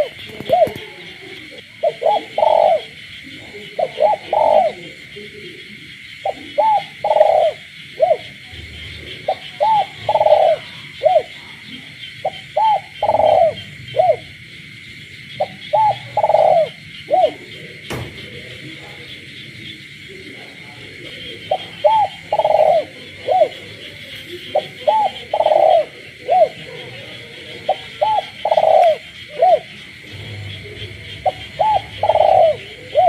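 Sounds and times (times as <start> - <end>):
dove cooing: 0.0 - 33.0
frogs and toads croaking: 0.0 - 33.0.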